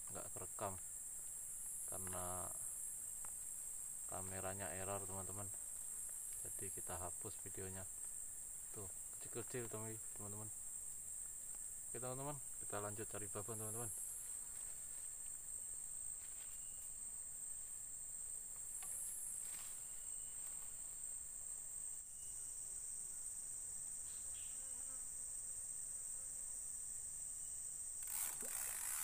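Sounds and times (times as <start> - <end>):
insect chorus droning: 0.0 - 29.0.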